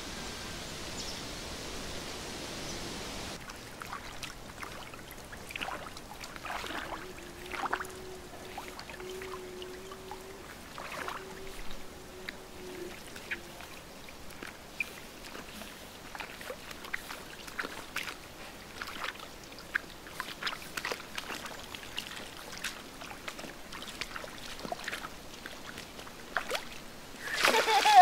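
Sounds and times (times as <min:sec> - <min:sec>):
water splashing in puddle: 0:03.3 - 0:28.0.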